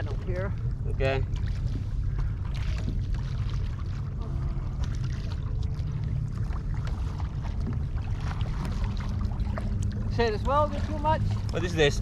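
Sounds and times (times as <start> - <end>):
steady low rumble: 0.0 - 12.0
water splashing and trickling: 0.0 - 12.0.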